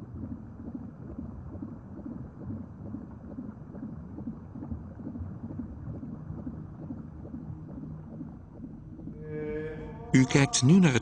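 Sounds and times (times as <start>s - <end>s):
low irregular rumbling: 0.0s - 11.0s.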